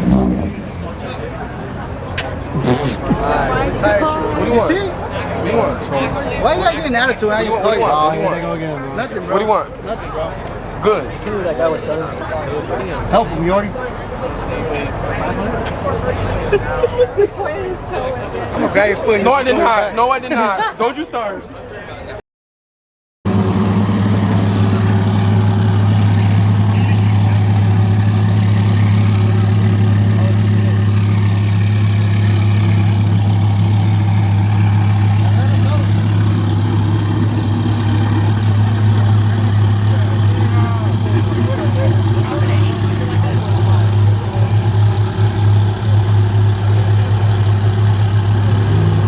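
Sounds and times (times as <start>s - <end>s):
car engine idling: 0.0s - 16.8s, 23.3s - 49.0s.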